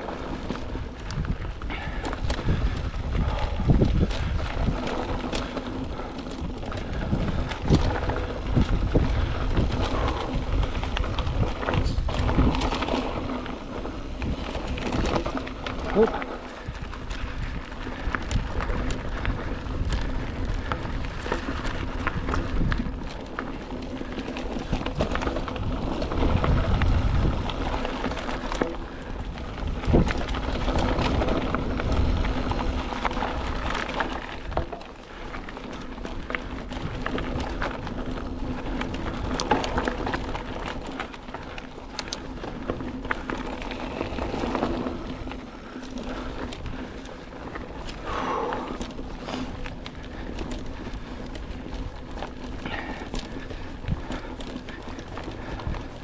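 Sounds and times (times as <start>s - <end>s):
bike clicks and rattles: 0.0s - 56.0s
bike tyres crunching on dirt: 0.0s - 56.0s.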